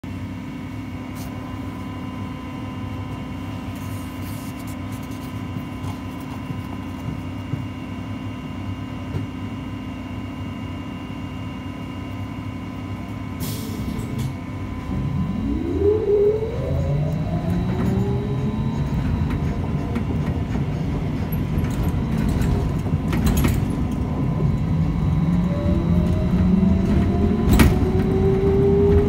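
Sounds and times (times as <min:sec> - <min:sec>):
trolleybus equipment humming: 0:00.0 - 0:29.0.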